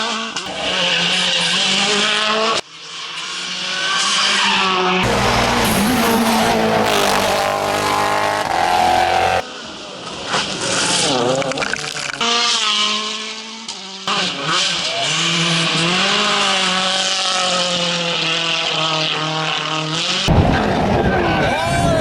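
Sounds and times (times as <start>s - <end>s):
rally car engines revving hard: 0.0s - 9.4s, 10.3s - 21.4s.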